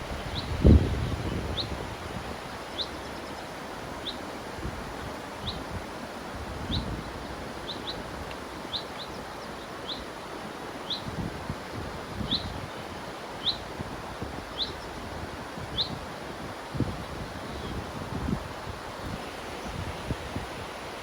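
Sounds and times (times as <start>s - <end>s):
river rushing: 1.8s - 21.0s.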